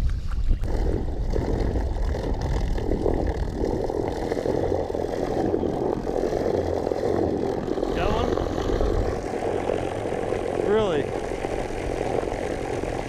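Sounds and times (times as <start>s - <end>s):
propeller churning water: 0.0s - 13.0s
electric trolling motor running: 0.6s - 13.0s.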